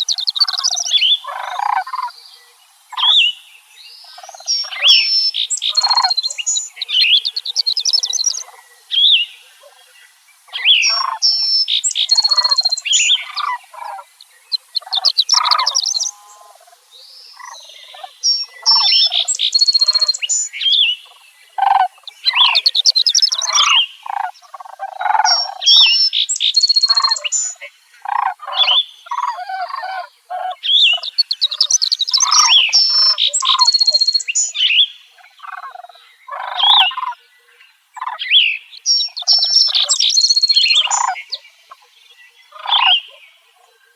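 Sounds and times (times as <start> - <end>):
songbird singing trills: 0.0 - 43.9.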